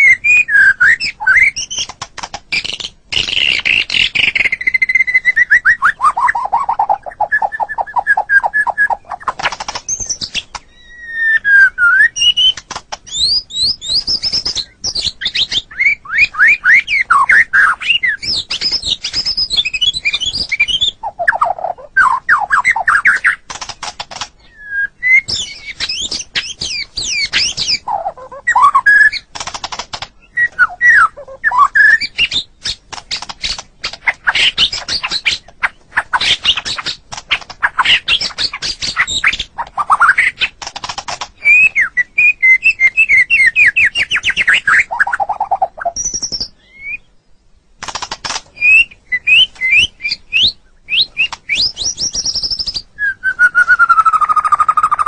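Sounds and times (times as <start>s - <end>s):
bird singing varied whistles: 0.0s - 1.9s, 2.5s - 23.4s, 24.4s - 29.3s, 30.2s - 37.0s, 41.4s - 47.1s, 48.6s - 55.0s.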